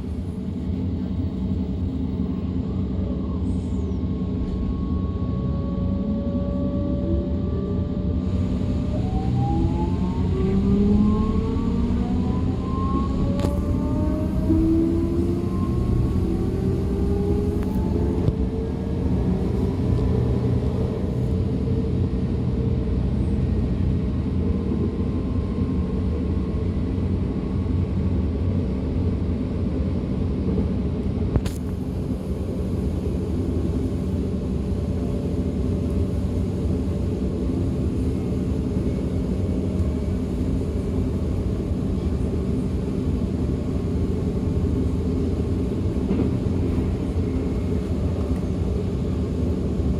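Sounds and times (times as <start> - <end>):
electric train drive whine: 0.0 - 27.8, 31.0 - 49.9
wheels rumbling on rail: 0.0 - 49.9.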